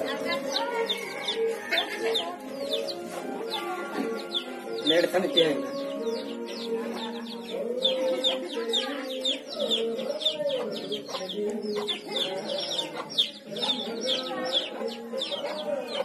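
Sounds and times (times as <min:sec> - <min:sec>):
chicks peeping: 0:00.0 - 0:16.0
hens clucking: 0:00.0 - 0:16.0.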